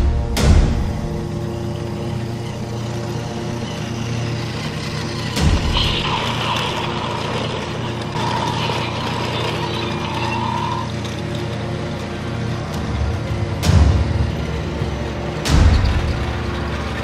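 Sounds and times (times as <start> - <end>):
toy train motor hum and whine: 0.8 - 17.0.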